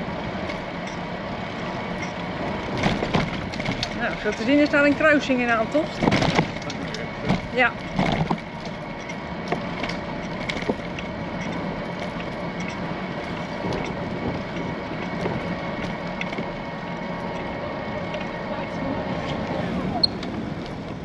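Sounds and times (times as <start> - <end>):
bicycle clicks and rattles: 0.0 - 18.6, 19.2 - 21.0
bicycle tyres rolling: 0.0 - 21.0.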